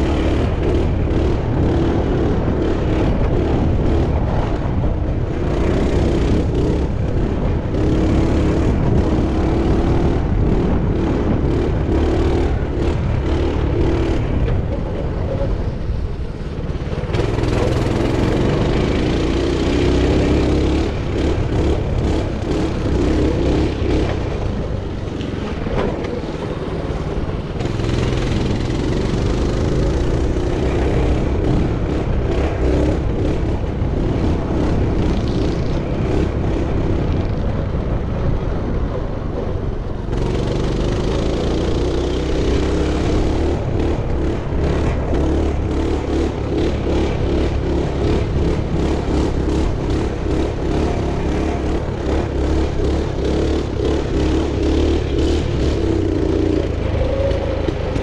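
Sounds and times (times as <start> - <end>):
dirt bike engine revving: 0.0 - 15.6, 16.5 - 38.6, 40.0 - 58.0
wind rushing over microphone: 0.0 - 58.0.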